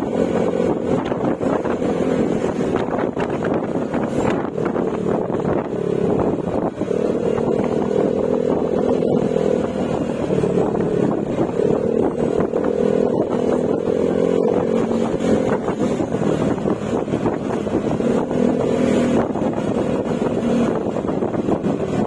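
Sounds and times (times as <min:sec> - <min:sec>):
scooter engine drone: 0:00.0 - 0:22.0
wind buffeting microphone: 0:00.0 - 0:22.0.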